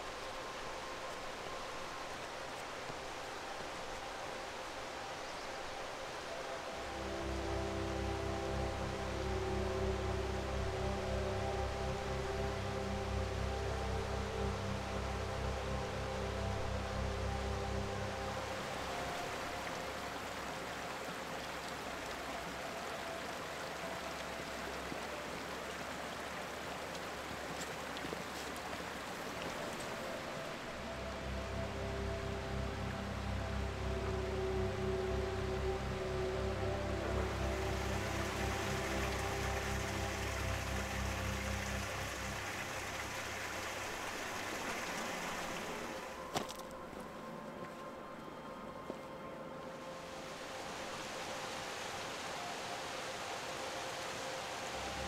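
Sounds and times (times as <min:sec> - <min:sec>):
rushing outdoor noise: 0:00.0 - 0:55.0
stream flowing over rocks: 0:00.0 - 0:55.0.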